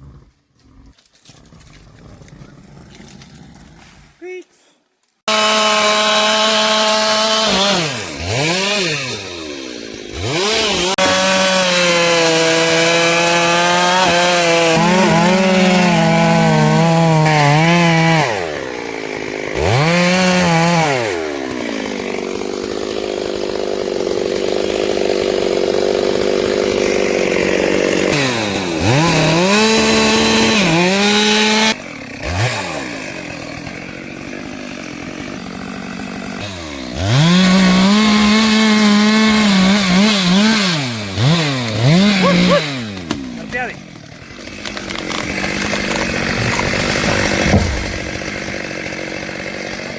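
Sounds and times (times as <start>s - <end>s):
chainsaw cutting wood: 5.2s - 49.9s.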